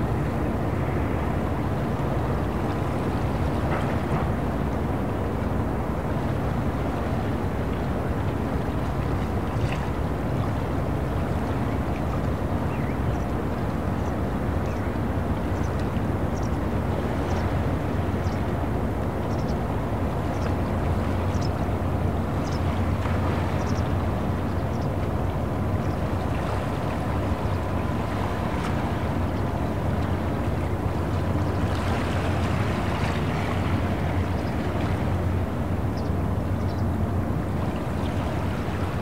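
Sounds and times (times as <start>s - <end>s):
boat engine droning: 0.0s - 39.0s
rush of water: 0.0s - 39.0s
water lapping: 6.1s - 39.0s.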